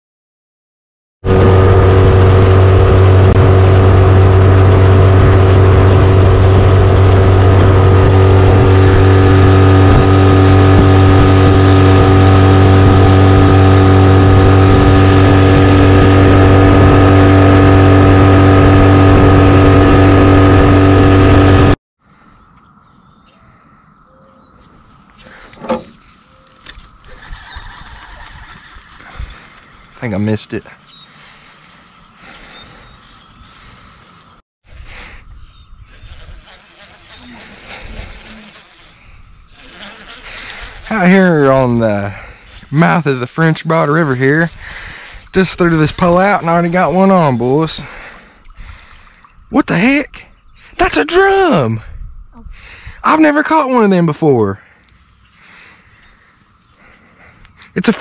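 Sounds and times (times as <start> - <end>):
water and wind noise: 1.2 - 21.6, 24.7 - 58.0
outboard motor running: 1.2 - 21.8, 25.3 - 34.4, 35.8 - 51.5, 54.6 - 58.0.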